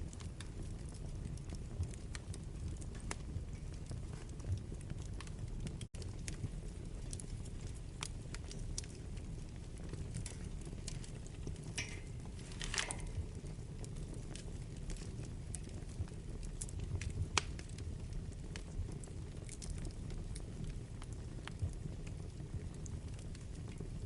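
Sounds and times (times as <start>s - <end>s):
fire crackles and pops: 0.0s - 24.0s
fire flames rumbling: 0.0s - 24.0s.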